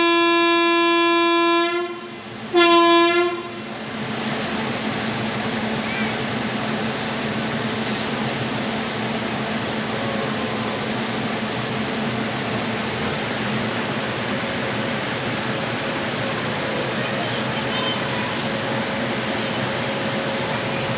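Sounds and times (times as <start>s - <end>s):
train wheels rolling on rails: 2.0s - 20.9s.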